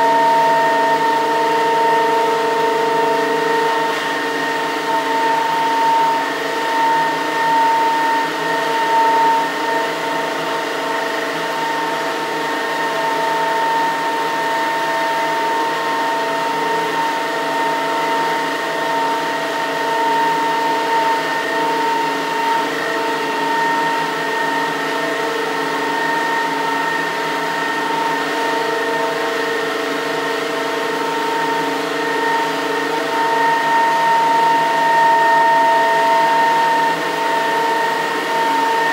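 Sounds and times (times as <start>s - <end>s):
turbine whine: 0.0s - 38.9s.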